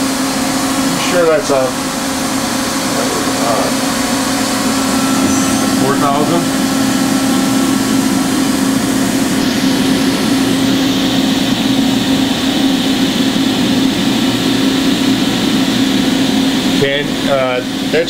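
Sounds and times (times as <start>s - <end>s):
machining center spindle hum: 0.0s - 18.0s.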